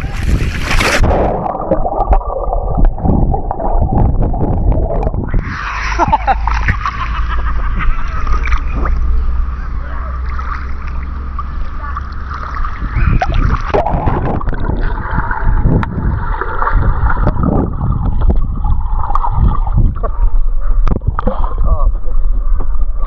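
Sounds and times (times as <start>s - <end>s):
pool water splashing and sloshing: 0.0s - 22.1s
water gurgles: 0.0s - 23.0s.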